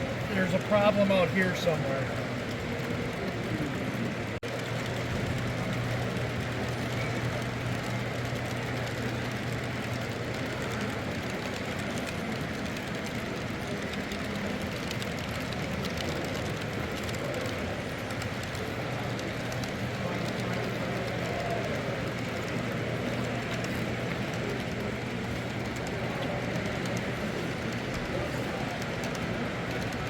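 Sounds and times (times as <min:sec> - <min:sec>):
model train hum and rumble: 0:00.0 - 0:30.0.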